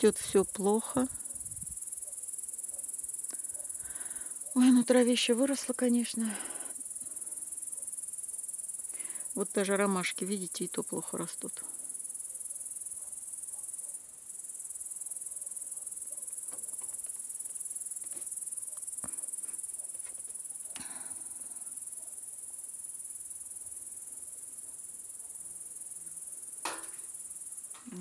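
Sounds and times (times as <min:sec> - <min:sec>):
insect chorus chirring: 0:00.0 - 0:28.0.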